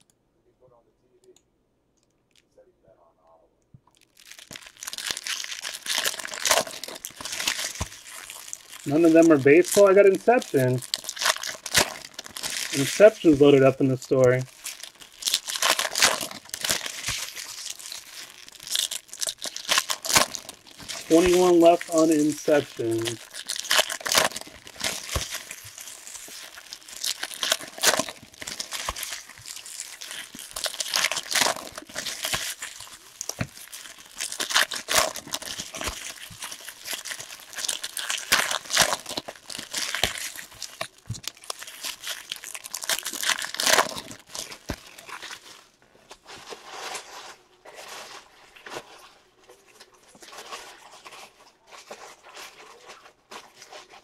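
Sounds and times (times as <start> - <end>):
wrappers tearing and crinkling: 3.9 - 54.0.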